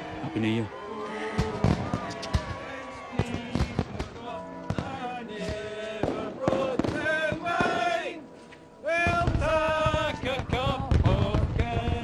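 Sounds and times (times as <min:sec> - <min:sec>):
choir singing in harmony: 0:00.8 - 0:12.0.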